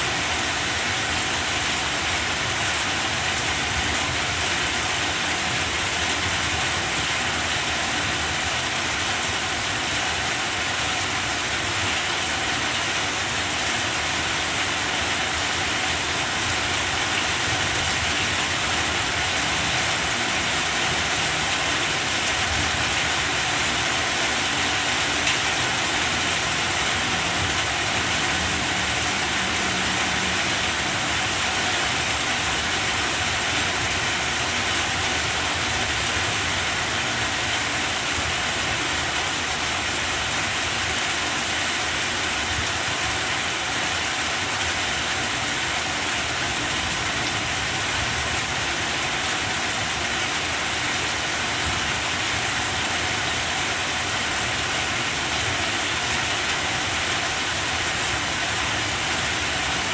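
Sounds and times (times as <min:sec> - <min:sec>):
heavy rain on plants: 0:00.0 - 0:59.9.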